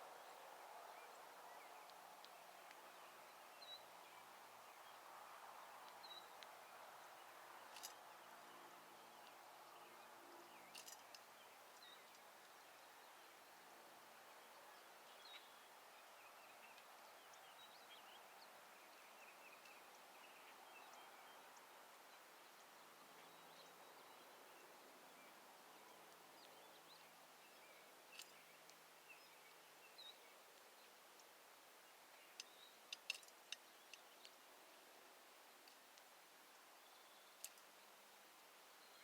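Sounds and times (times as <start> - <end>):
low hiss: 0.0 - 39.0
small birds chirping: 0.0 - 39.0.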